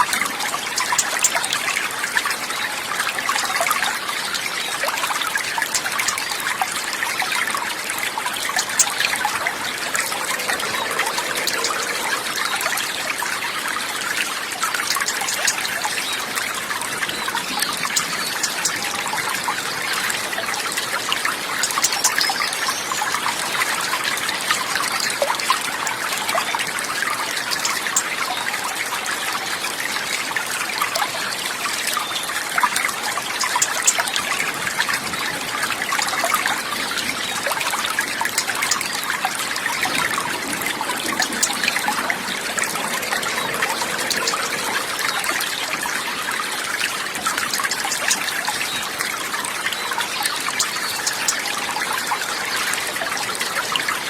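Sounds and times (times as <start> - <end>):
water trickling and bubbling: 0.0 - 54.0.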